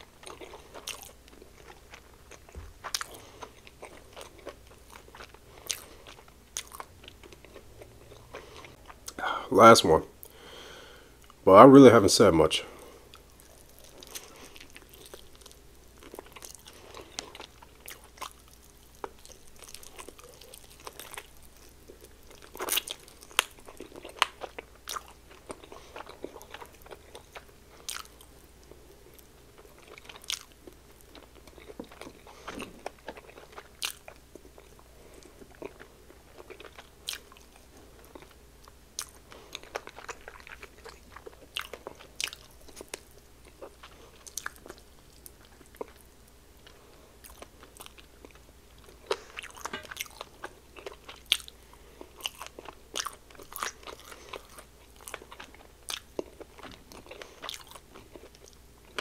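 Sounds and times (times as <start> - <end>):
crunching fried chicken: 0.0 - 9.2, 13.1 - 59.0.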